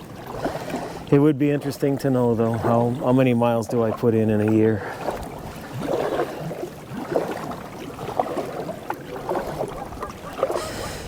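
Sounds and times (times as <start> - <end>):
water swishing around paddle: 0.0 - 11.0.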